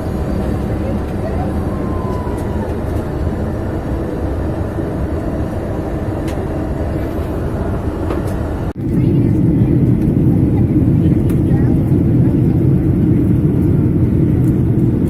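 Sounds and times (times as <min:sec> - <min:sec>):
aircraft engines rumbling: 0:00.0 - 0:15.0.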